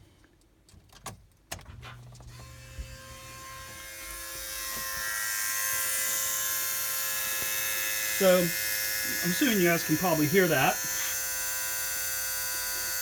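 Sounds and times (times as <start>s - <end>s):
high-pitched squeal-buzz: 2.4s - 13.0s.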